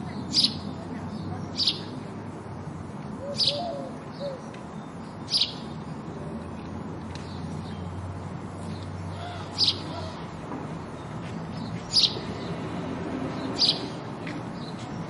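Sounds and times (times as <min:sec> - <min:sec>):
sparrow chirping: 0:00.0 - 0:06.2, 0:07.1 - 0:15.0.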